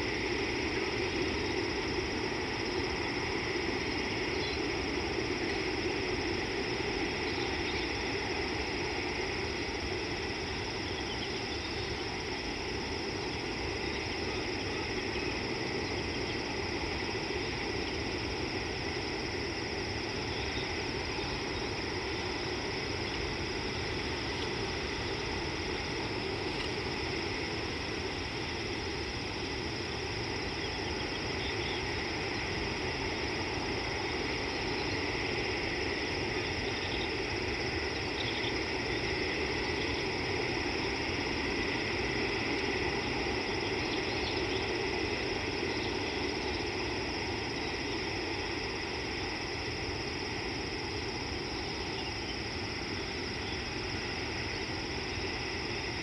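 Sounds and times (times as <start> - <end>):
continuous hum and hiss: 0.0 - 56.0.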